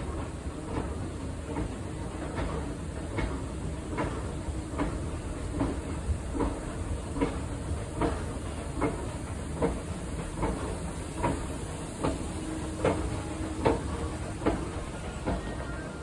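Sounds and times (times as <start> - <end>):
sharp regular escalator click: 0.1 - 15.8.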